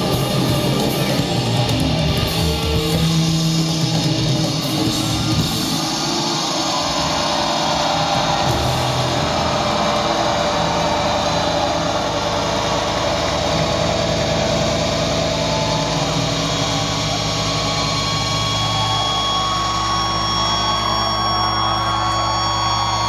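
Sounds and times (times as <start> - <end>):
distorted guitar drone: 0.0 - 23.0.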